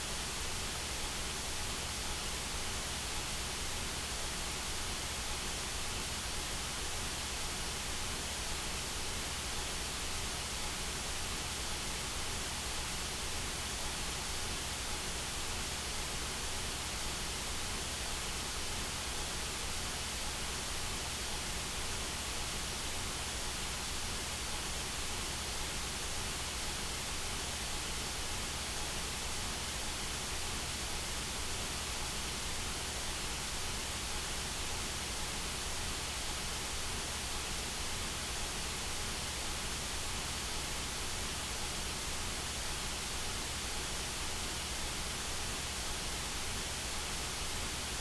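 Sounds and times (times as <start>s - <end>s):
white noise hiss: 0.0s - 48.0s.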